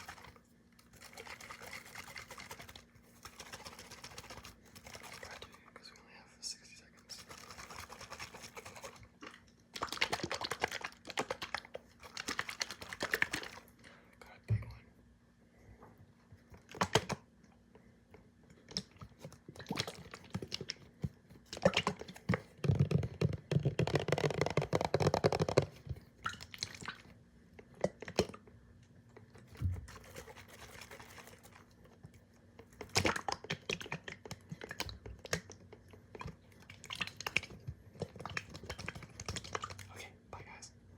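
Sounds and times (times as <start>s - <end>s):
wet clicking and crackling: 0.0s - 5.8s, 7.1s - 13.8s, 18.5s - 40.0s.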